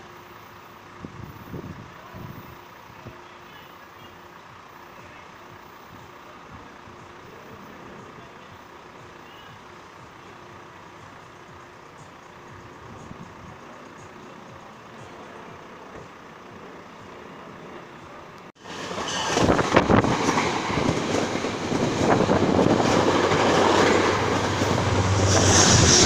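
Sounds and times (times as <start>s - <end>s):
distant train rumble: 0.0s - 26.0s.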